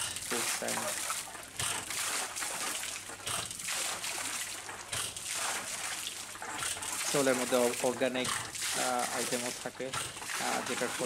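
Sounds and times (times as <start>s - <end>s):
muddy water splashing and trickling: 0.0s - 11.0s.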